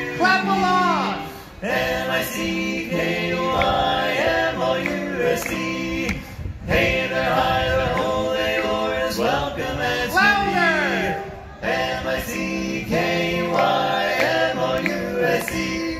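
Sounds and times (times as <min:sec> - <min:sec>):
male quartet singing in harmony: 0:00.0 - 0:15.9.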